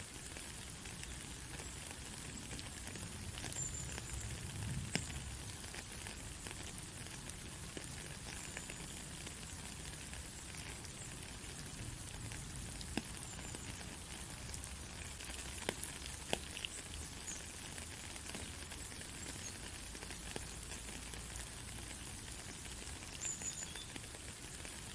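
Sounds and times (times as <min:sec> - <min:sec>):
rain falling: 0:00.0 - 0:24.9
raindrop ticks: 0:00.2 - 0:24.9.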